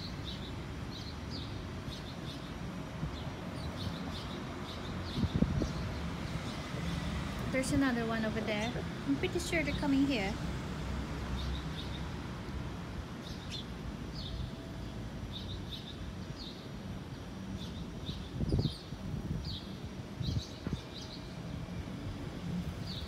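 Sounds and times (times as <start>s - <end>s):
small birds chirping: 0.0s - 10.4s, 11.2s - 21.8s, 22.7s - 23.0s
outdoor background noise: 0.0s - 23.0s.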